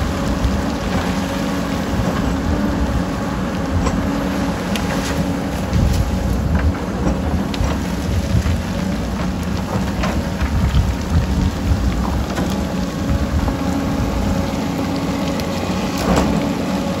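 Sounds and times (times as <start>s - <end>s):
diesel engines under load: 0.0s - 17.0s
rocks and earth clattering: 0.0s - 17.0s.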